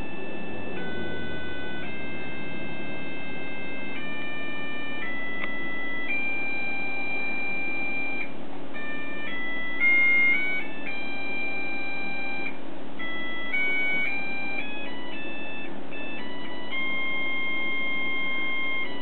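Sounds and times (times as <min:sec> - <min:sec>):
alarm clock electronic tune: 0:00.0 - 0:19.0.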